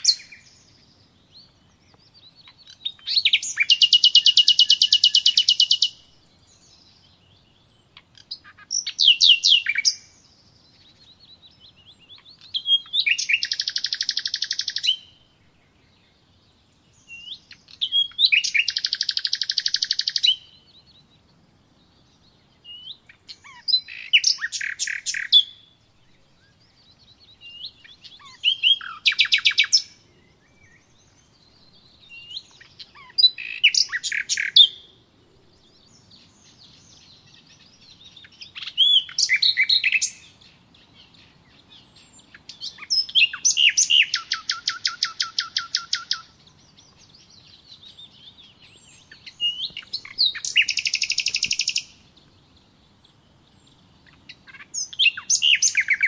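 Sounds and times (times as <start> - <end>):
songbird trilling: 0.0 - 15.3, 16.3 - 21.3, 21.9 - 35.0, 35.6 - 56.0
soft bird chirps: 0.0 - 56.0.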